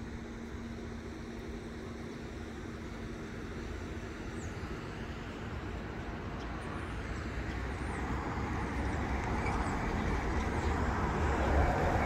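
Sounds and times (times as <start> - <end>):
outdoor rumbling: 0.0 - 12.0.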